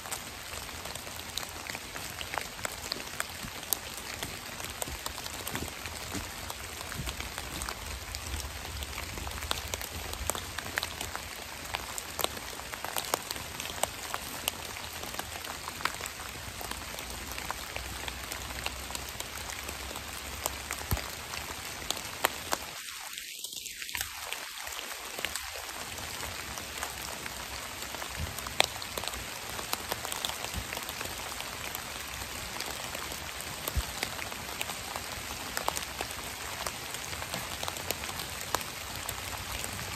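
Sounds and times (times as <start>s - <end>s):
raindrops ticking: 0.0s - 22.8s, 23.6s - 39.9s
rain on dry leaves: 0.0s - 39.9s.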